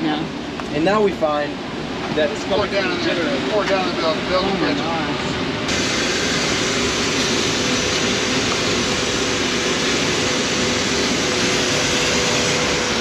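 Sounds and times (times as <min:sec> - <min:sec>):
diesel machinery running: 0:00.0 - 0:13.0
steady whine: 0:00.0 - 0:13.0.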